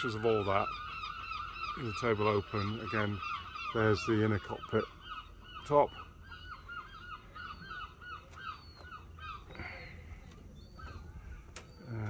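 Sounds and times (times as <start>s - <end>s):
birds calling harsh notes: 0.0s - 12.0s.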